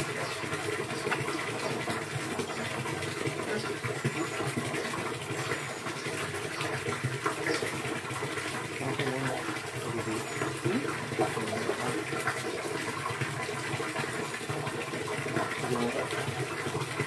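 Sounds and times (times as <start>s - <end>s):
running gurgling water: 0.0s - 17.0s.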